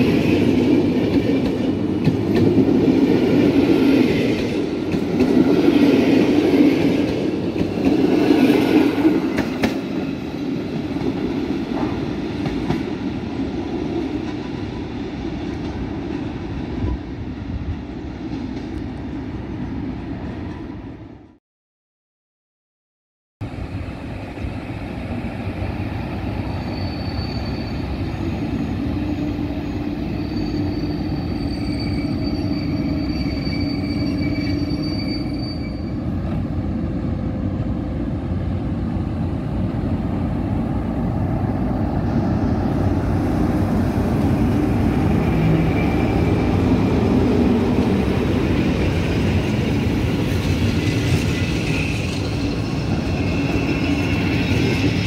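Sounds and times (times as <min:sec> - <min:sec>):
train rumbling on rails: 0:00.0 - 0:21.4, 0:23.4 - 0:55.0.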